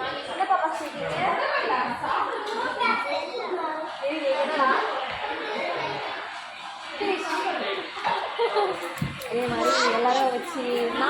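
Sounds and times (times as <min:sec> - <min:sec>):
faint voices talking: 0:00.0 - 0:11.0.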